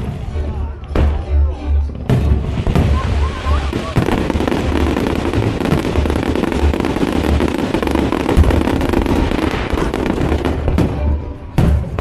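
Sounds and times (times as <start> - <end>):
fireworks popping and crackling: 2.0 - 12.0
deep firework booms: 2.1 - 12.0.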